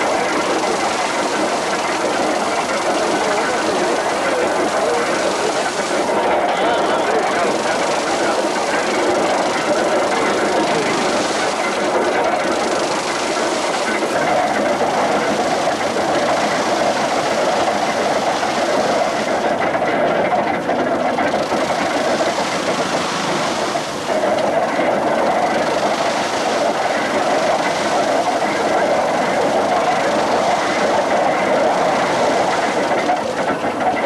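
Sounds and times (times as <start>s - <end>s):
threshing machine rattling: 0.0s - 34.0s.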